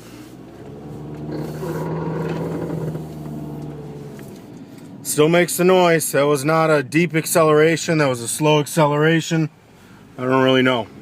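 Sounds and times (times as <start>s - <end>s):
car cabin droning hum: 0.0s - 11.0s.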